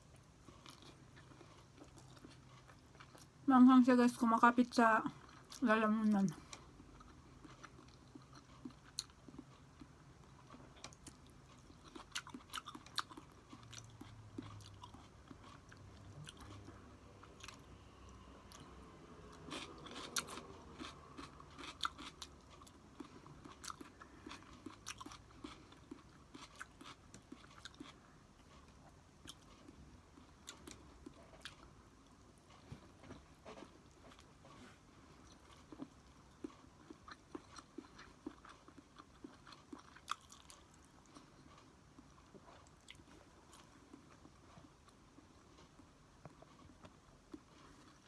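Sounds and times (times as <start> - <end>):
person chewing crunchy food: 0.0 - 3.5, 5.2 - 48.0.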